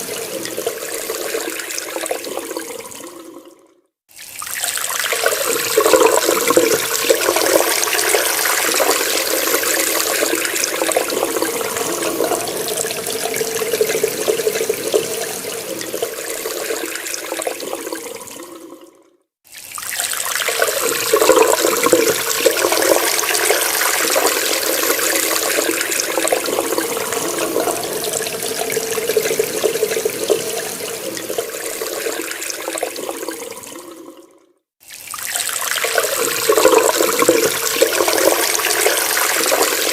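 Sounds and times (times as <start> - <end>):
water running from a tap: 4.1 - 18.8, 19.5 - 34.2, 34.8 - 39.9.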